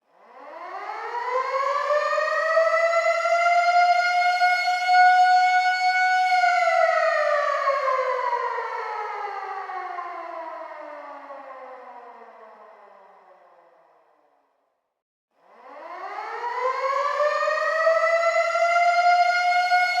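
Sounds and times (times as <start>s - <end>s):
air raid siren wailing: 0.3s - 14.0s, 15.4s - 20.0s.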